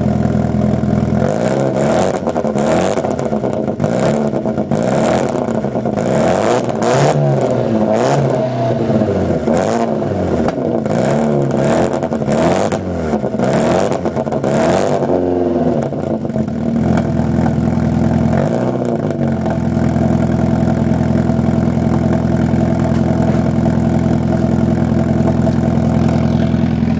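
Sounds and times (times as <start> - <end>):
car engine revving and idling: 0.0 - 26.9.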